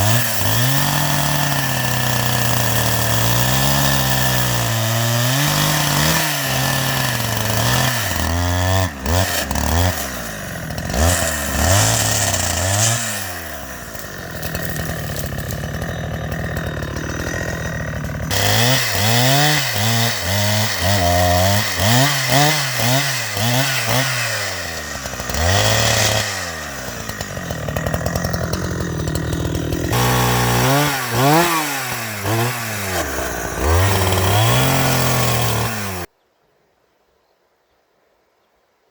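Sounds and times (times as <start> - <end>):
chainsaw cutting wood: 0.0 - 36.1.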